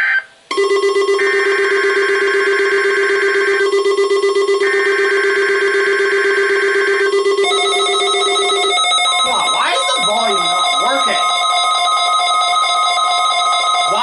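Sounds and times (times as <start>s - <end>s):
pulsing buzzing alarm tone: 0.0s - 14.0s
high beeping alarm: 0.5s - 14.0s.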